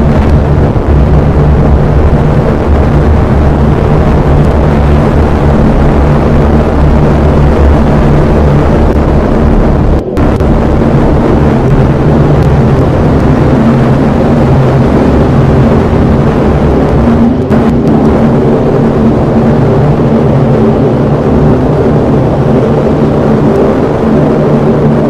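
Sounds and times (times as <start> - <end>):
low ambient drone: 0.0 - 25.0.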